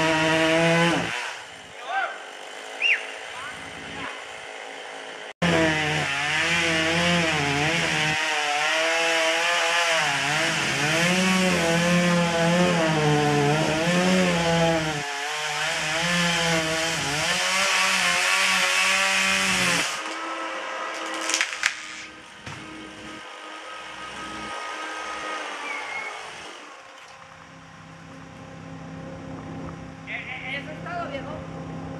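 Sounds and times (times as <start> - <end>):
chainsaw cutting tree trunk: 0.0 - 26.8.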